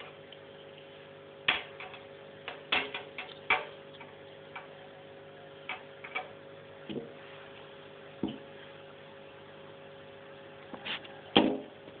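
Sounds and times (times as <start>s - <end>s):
cooling fans humming: 0.0s - 12.0s.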